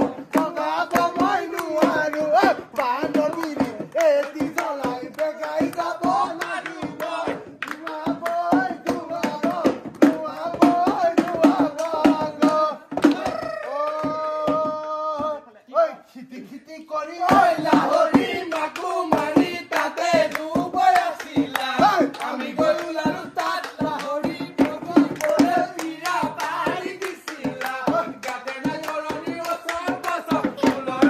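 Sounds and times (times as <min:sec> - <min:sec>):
hand claps: 0:00.0 - 0:15.0, 0:17.2 - 0:31.0
men singing folk song: 0:00.0 - 0:15.4, 0:16.2 - 0:31.0.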